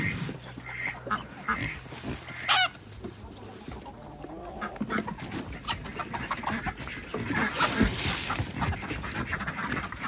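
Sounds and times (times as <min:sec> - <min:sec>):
chicken squawk: 0:00.0 - 0:02.8, 0:03.5 - 0:10.0
chickens clucking: 0:00.0 - 0:10.0.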